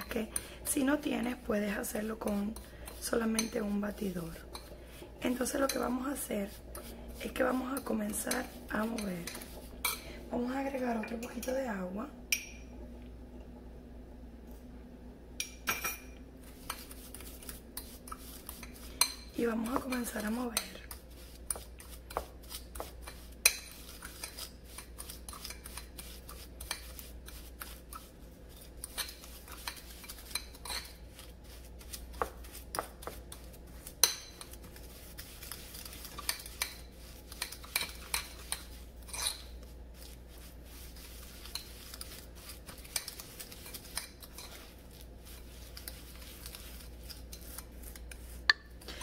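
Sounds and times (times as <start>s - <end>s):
fork whisking in bowl: 0.0s - 11.8s, 15.7s - 49.0s.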